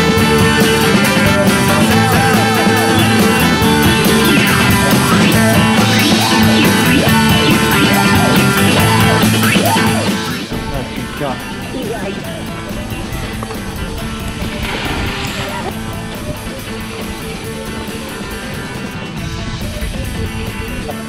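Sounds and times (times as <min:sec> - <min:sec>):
instrumental music with warbling lead: 0:00.0 - 0:21.0.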